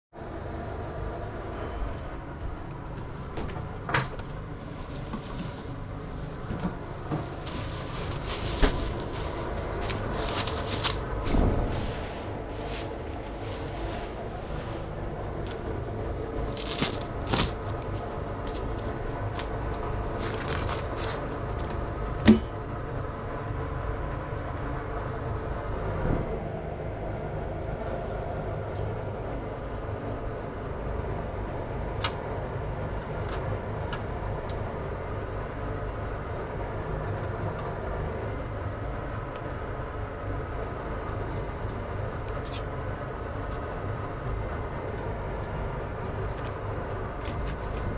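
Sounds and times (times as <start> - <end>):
steady mechanical hum: 0.1 - 47.9.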